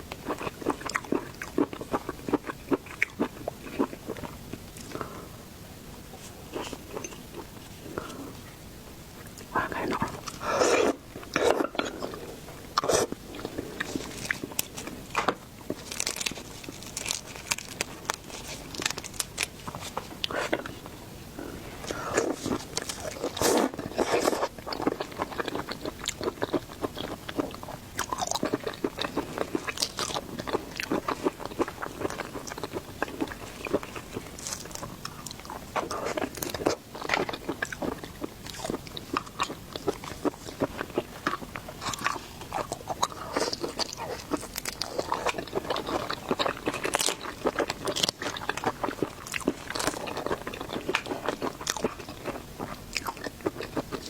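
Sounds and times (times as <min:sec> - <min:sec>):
person crunching and chewing food: 0:00.0 - 0:05.4, 0:06.1 - 0:08.4, 0:09.2 - 0:54.0.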